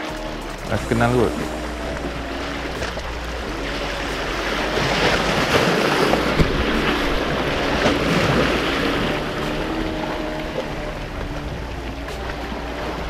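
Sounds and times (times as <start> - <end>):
sea waves splashing on rocks: 0.0 - 13.0.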